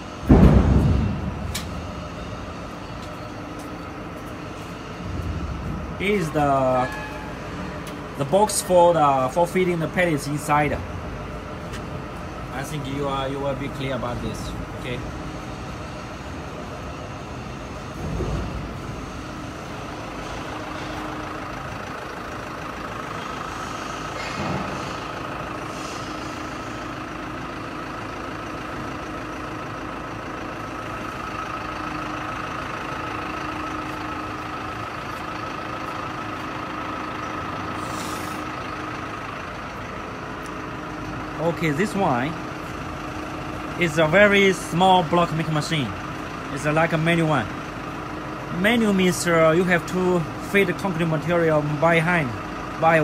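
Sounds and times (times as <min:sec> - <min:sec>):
machinery humming: 0:00.0 - 0:53.0.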